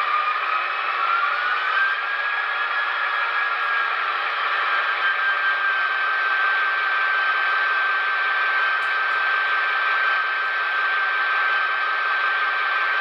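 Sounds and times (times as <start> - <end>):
model diesel engine sound with whine: 0.0 - 13.0.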